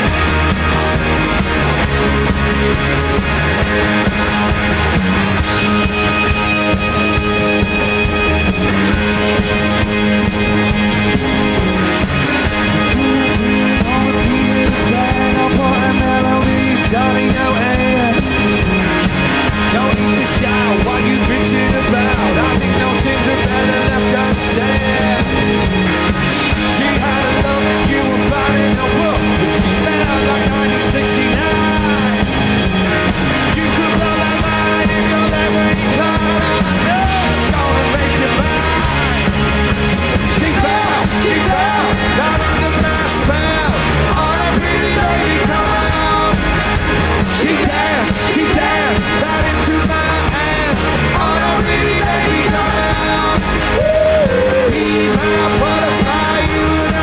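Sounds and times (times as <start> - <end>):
rock band playing: 0.0 - 57.0
sliding lead melody: 0.0 - 57.0.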